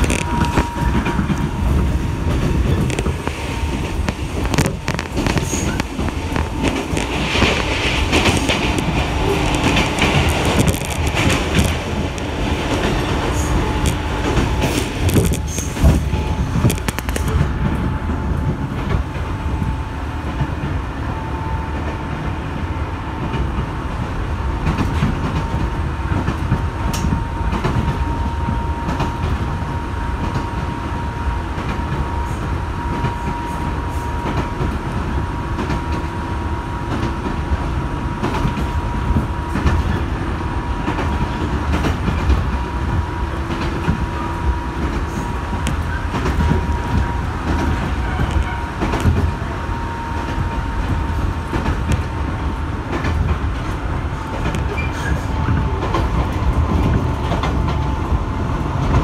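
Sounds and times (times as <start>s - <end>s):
train running low rumble: 0.0s - 59.0s.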